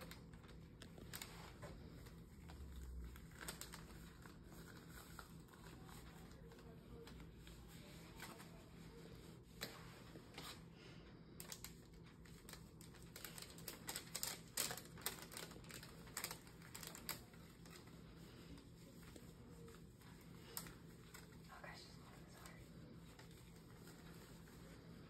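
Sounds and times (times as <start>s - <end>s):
paper wrapper crackling: 0.0s - 10.6s, 11.4s - 25.0s.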